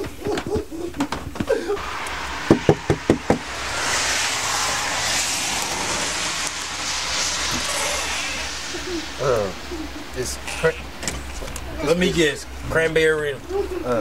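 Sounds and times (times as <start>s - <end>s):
steady hiss: 1.7s - 13.8s.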